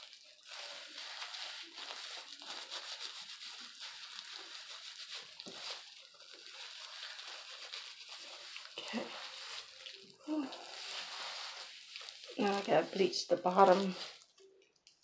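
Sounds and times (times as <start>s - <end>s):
plastic gloves crackling: 0.0s - 15.0s
wet hair squishing and rubbing: 0.0s - 15.0s.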